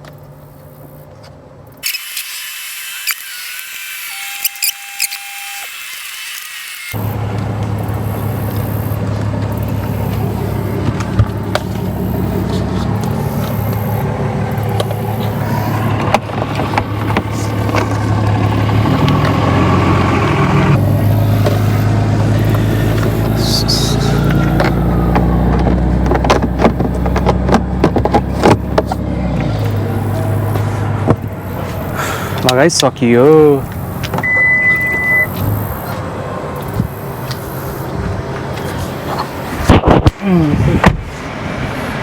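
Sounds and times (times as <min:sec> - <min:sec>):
vehicle engine hum: 0:00.0 - 0:02.2, 0:06.6 - 0:42.0.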